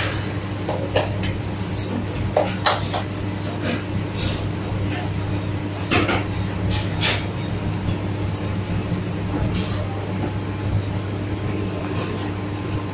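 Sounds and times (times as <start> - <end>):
kitchen machinery hum: 0.0 - 12.9.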